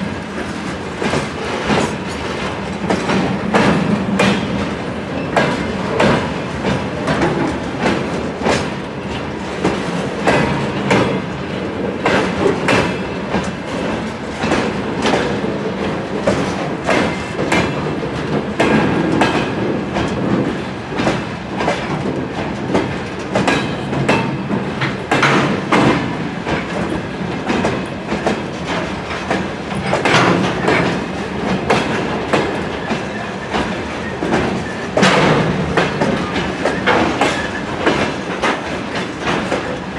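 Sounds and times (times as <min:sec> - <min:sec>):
train rumble: 0:00.0 - 0:39.9
train wheels clacking over rail joints: 0:00.0 - 0:39.9.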